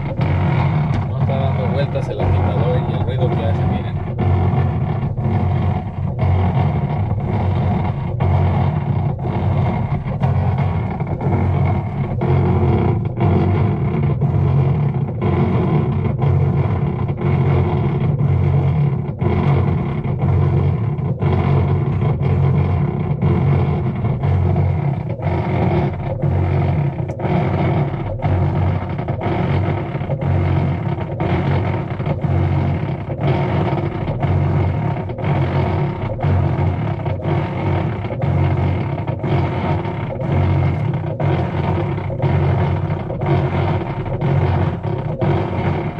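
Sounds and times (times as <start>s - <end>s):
washing machine pulsing drone: 0.0s - 45.9s.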